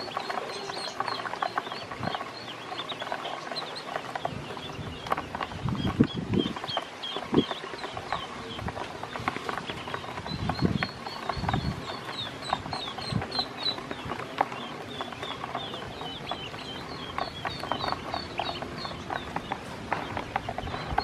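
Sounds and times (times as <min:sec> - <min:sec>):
bills pecking at plastic basin: 0:00.0 - 0:21.0
ducklings peeping: 0:00.0 - 0:21.0.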